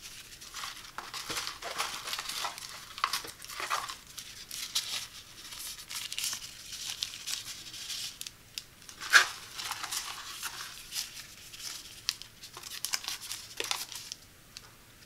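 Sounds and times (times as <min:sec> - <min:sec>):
paper wrappers crinkling: 0:00.0 - 0:14.3.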